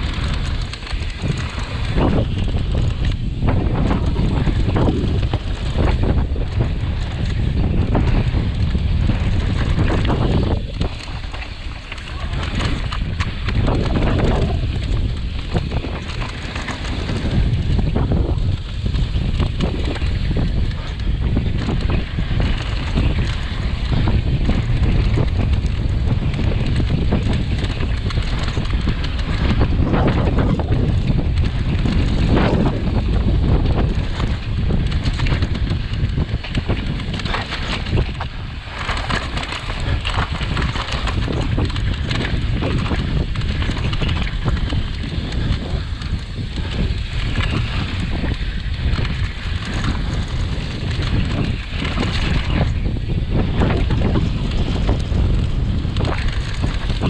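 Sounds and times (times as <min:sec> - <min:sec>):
bike knocks and rattles: 0:00.0 - 0:57.0
tyre rumble on gravel: 0:00.0 - 0:57.0
wind buffeting microphone: 0:00.0 - 0:57.0.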